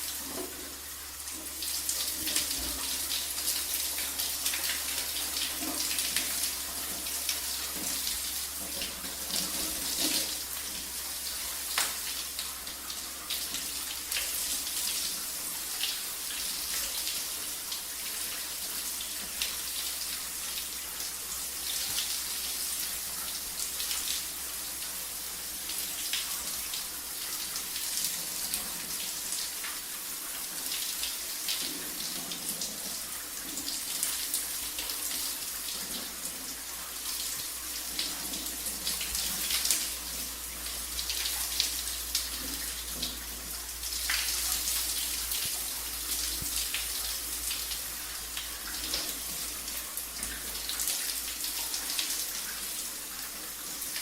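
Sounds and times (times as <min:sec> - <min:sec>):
water drips and spatters: 0:00.0 - 0:54.0.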